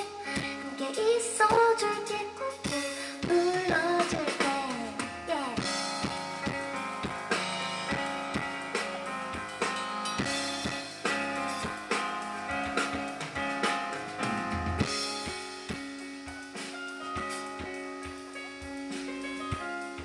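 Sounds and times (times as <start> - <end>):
drum kit beat: 0.0 - 20.0
keyboard chords: 1.9 - 20.0.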